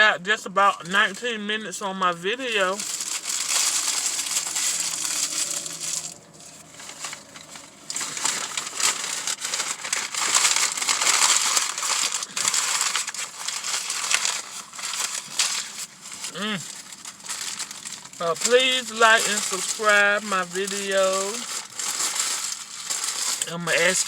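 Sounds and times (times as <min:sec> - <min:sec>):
paper wrapper crumpling: 0:02.1 - 0:24.0.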